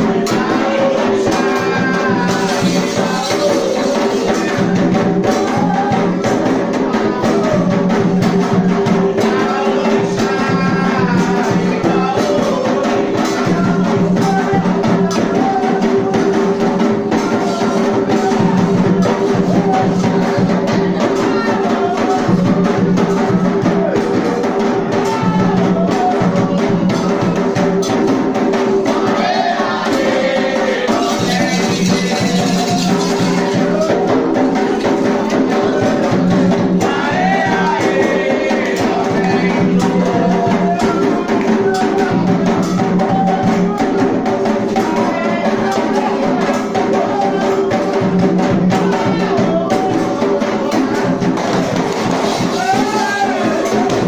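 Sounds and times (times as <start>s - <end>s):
ritual drumming: 0.0s - 54.0s
voices singing a chant: 0.0s - 54.0s.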